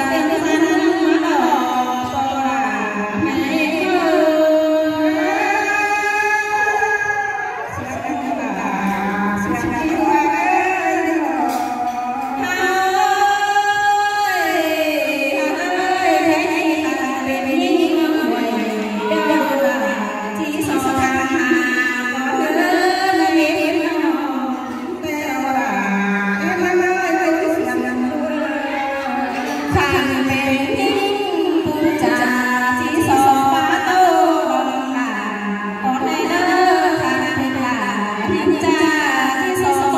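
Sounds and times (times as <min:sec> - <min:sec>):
woman singing through a microphone: 0:00.0 - 0:39.9.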